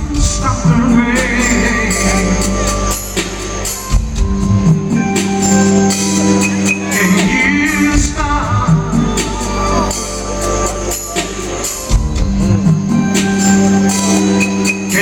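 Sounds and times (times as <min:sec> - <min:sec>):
live band playing ballad: 0:00.0 - 0:15.0.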